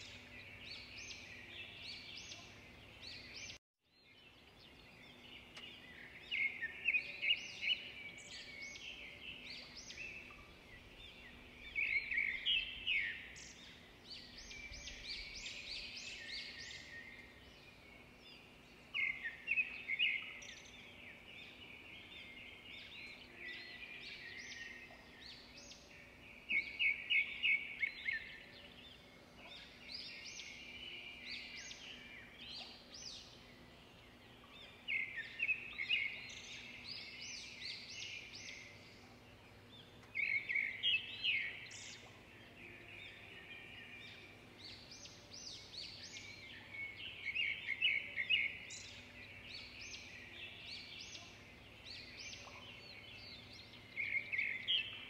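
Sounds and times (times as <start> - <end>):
faint background noise: 0.0 - 55.0
songbirds chirping and trilling: 0.0 - 55.0.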